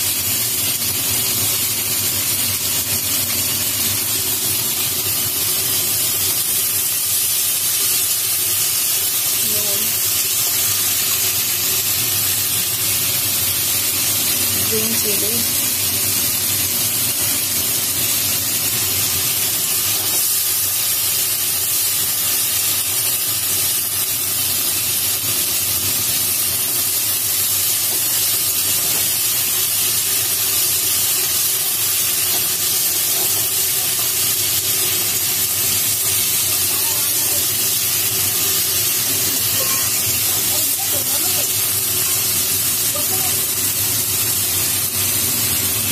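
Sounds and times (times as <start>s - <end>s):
onion and tomato sizzling in oil: 0.0s - 45.9s.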